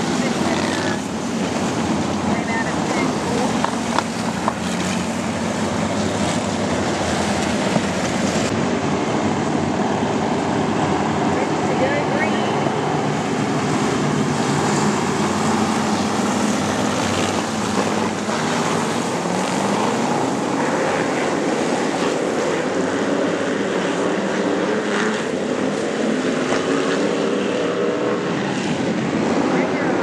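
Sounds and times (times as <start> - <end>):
race car engines running hard: 0.0 - 30.0.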